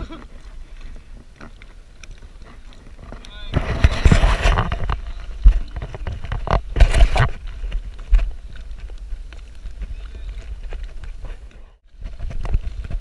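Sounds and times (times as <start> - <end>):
wind and water rumble on microphone: 0.0 - 13.0.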